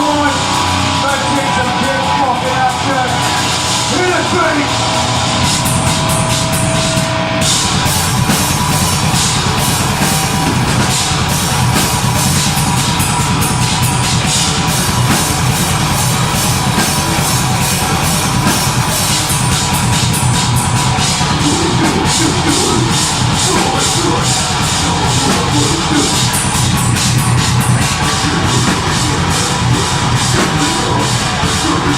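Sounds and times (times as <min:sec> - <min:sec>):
distorted guitars and bass: 0:00.0 - 0:31.9
fast driving drums: 0:00.0 - 0:31.9.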